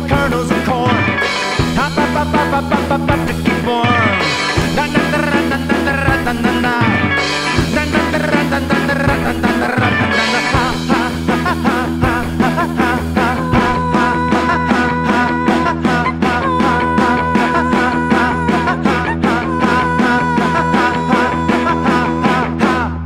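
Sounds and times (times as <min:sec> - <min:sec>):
rock band music: 0:00.0 - 0:23.0
steady drum beat: 0:00.0 - 0:23.0.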